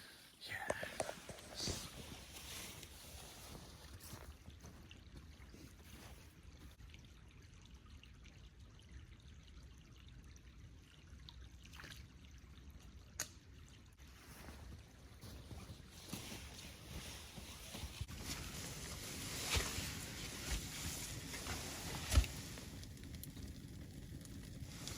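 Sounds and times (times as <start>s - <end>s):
faint trickling water: 0.0s - 24.9s.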